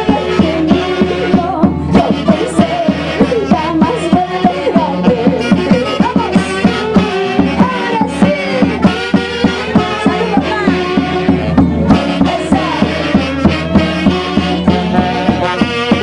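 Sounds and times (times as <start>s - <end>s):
live band music: 0.0s - 16.0s.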